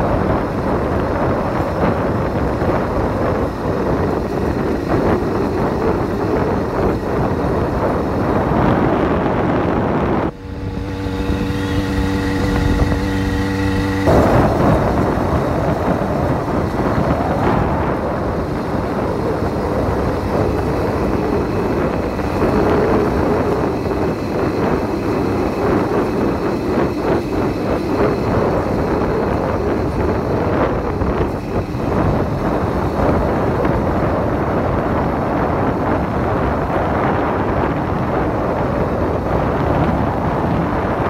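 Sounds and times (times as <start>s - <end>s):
motorbike engine running: 0.0s - 41.0s
wind rushing over microphone: 0.0s - 41.0s.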